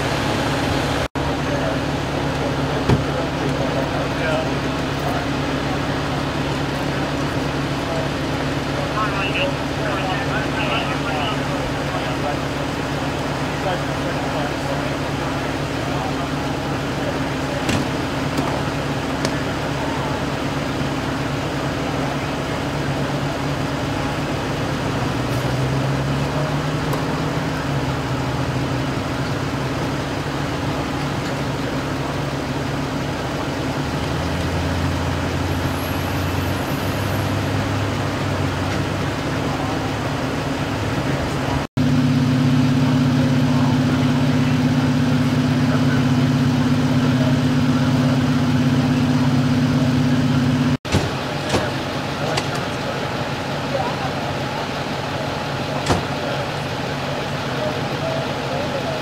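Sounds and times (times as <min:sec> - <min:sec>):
vehicle engines idling: 0:00.0 - 0:59.0.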